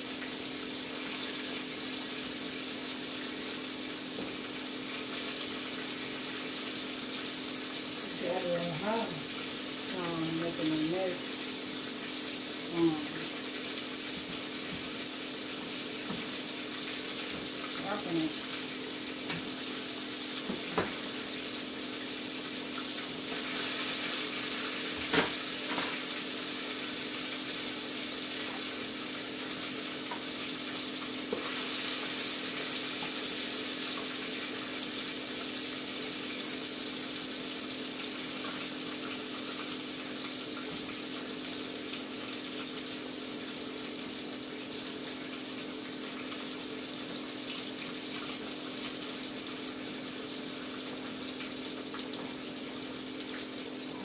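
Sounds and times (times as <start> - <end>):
fish sizzling in a skillet: 0.0 - 54.0.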